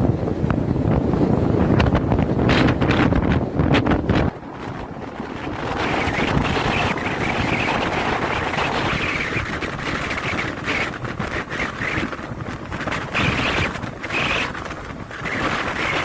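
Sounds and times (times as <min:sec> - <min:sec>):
sea waves washing on beach: 0:00.0 - 0:16.0
wind buffeting microphone: 0:00.0 - 0:16.0.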